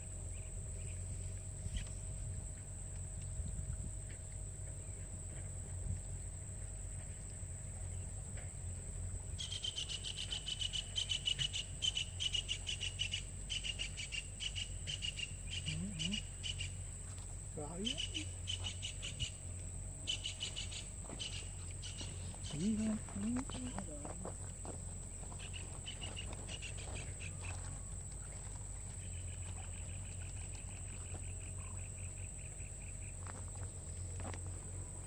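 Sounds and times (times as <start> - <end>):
insect chirping trill: 0.0 - 35.0
insect high-pitched buzz: 0.0 - 35.0.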